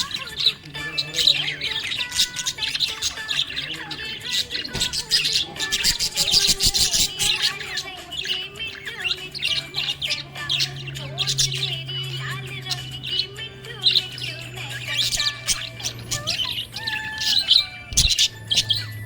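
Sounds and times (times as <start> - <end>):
budgerigar chirping and warbling: 0.0 - 19.0.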